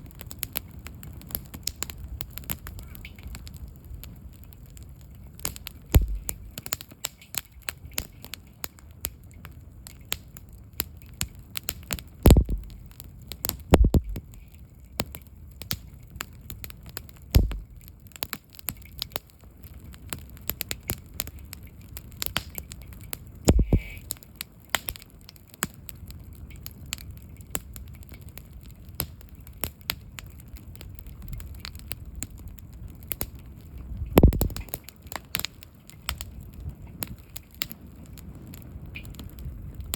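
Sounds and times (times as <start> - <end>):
loud fire pops: 0.0 - 39.9
wood campfire crackling: 0.0 - 39.9.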